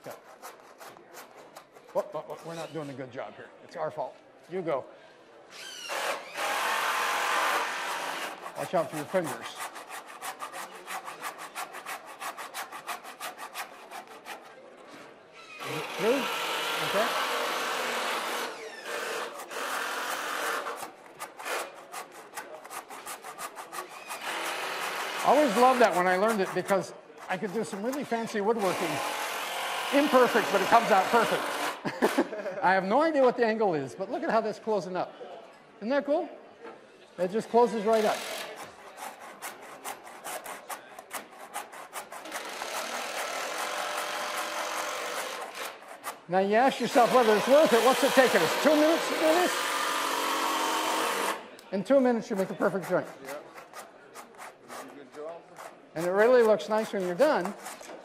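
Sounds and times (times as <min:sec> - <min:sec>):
handsaw cutting wood: 0:00.0 - 0:03.0, 0:05.6 - 0:14.7, 0:15.6 - 0:32.3, 0:37.5 - 0:51.5, 0:52.2 - 0:58.0.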